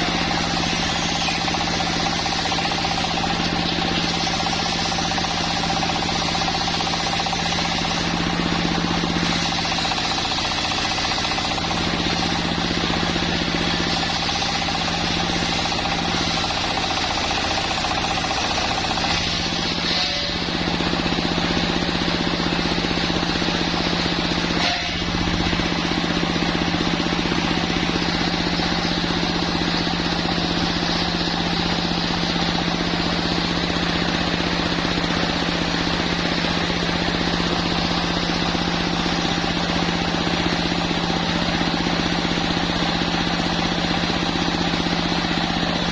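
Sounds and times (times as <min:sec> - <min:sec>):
sawmill machine humming: 0:00.0 - 0:45.9.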